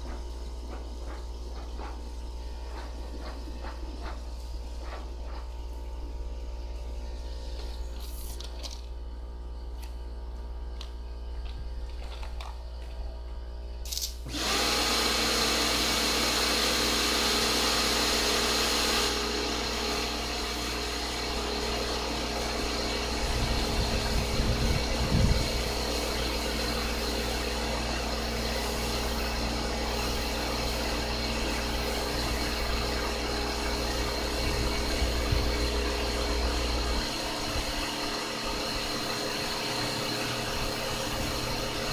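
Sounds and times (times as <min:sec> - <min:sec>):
pressure washer motor hum: 0:00.0 - 0:08.8, 0:14.2 - 0:41.9.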